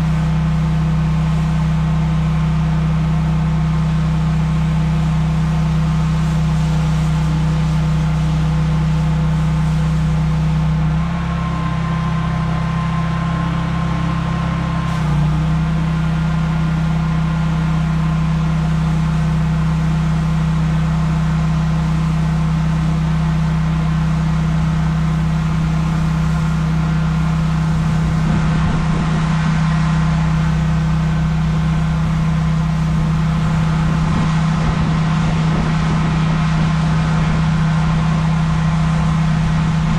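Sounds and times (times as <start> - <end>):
pressure washer engine humming: 0.0 - 39.9.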